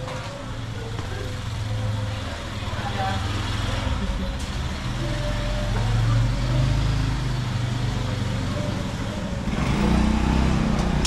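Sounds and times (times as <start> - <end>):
vehicle engine droning at low revs: 0.0 - 11.0.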